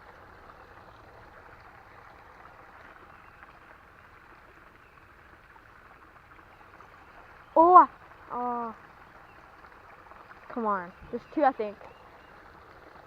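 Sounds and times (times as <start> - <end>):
faint creek water flowing: 0.0 - 13.0.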